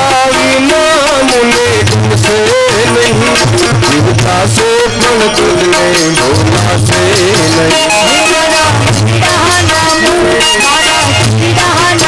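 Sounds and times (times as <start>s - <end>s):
electric banjo melody: 0.0s - 12.0s
harmonium: 0.0s - 12.0s
percussion: 0.0s - 12.0s.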